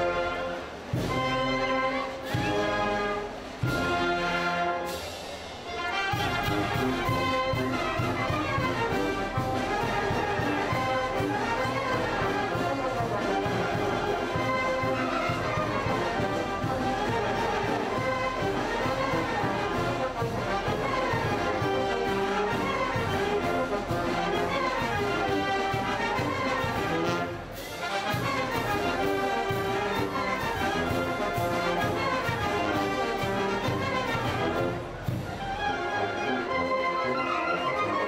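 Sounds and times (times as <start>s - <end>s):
brass band playing dance music: 0.0s - 38.0s.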